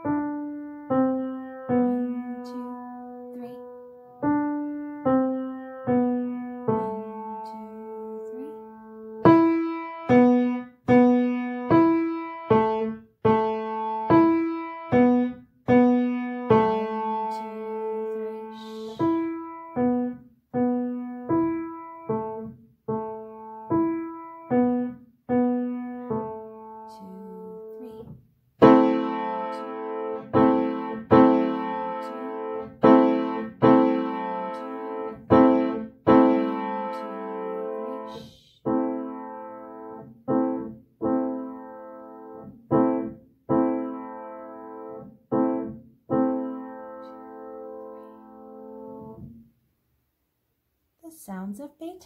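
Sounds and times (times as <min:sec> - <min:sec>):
slow piano piece: 0:00.0 - 0:49.5.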